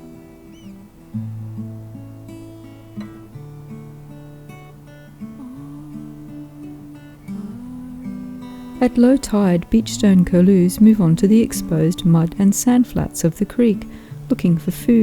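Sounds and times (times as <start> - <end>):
plucked acoustic guitar: 0.0 - 15.0.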